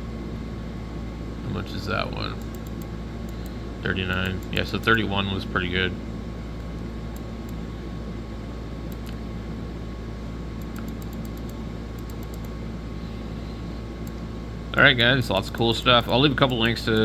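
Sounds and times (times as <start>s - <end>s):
low electrical hum and hiss: 0.0s - 17.0s.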